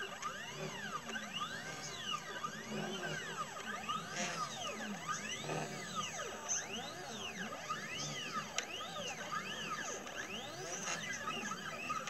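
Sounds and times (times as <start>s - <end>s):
stepper motor whine: 0.0s - 12.0s.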